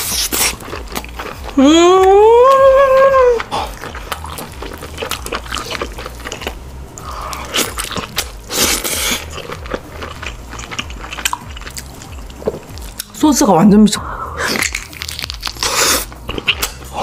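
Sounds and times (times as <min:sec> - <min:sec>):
crunchy biting: 0:00.0 - 0:01.5, 0:03.4 - 0:13.1, 0:14.4 - 0:17.0
person chewing food: 0:00.0 - 0:13.2, 0:14.2 - 0:17.0.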